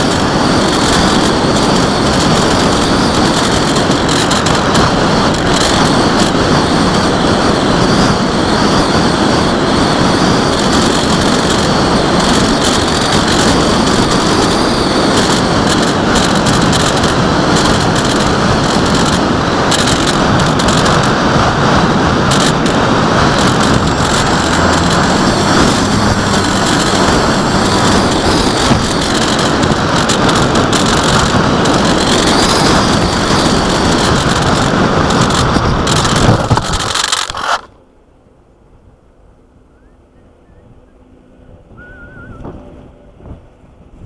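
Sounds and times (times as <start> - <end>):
wind rushing on microphone: 0.0 - 37.8, 39.8 - 44.0.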